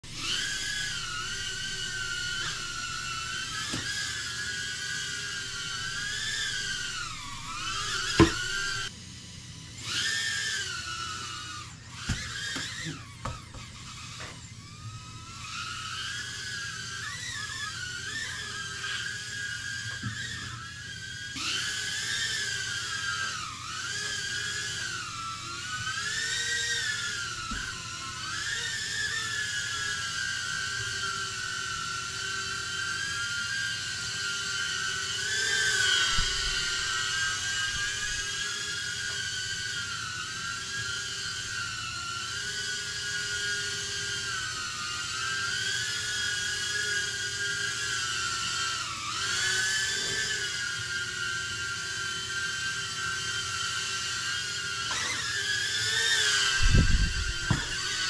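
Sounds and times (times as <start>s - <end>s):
drone motors whining: 0.0s - 58.0s.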